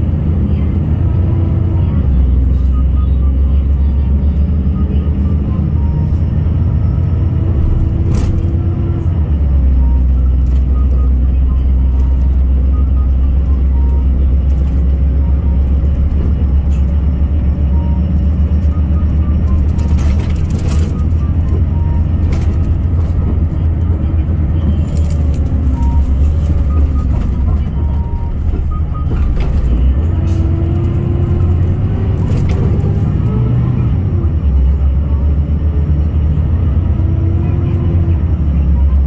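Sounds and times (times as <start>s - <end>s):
bus engine and road drone: 0.0s - 39.0s.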